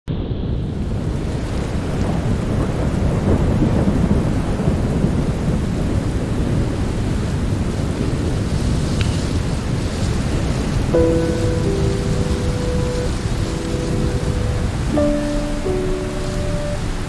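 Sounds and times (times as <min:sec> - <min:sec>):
heavy rain: 0:00.1 - 0:17.0.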